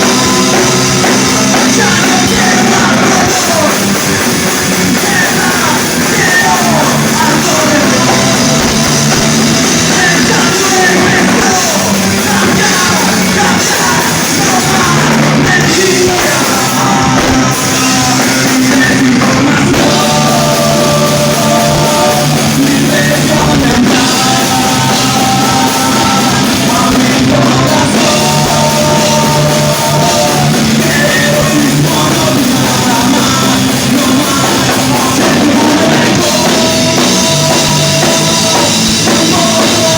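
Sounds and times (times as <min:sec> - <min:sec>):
low bass line: 0:00.0 - 0:39.9
person singing: 0:00.0 - 0:39.9
rock band playing live: 0:00.0 - 0:39.9.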